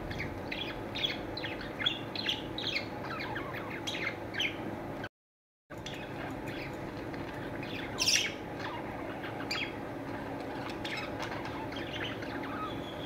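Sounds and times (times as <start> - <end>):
many birds chirping: 0.0 - 4.7, 5.8 - 13.0.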